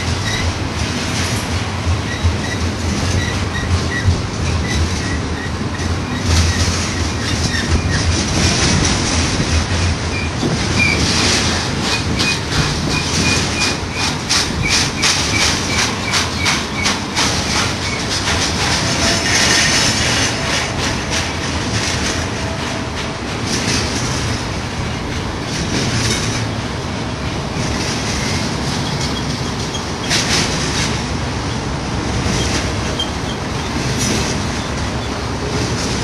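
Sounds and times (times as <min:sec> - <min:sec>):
train wheels rumbling on rail: 0:00.0 - 0:36.0
wheels clicking over rail joints: 0:00.0 - 0:36.0.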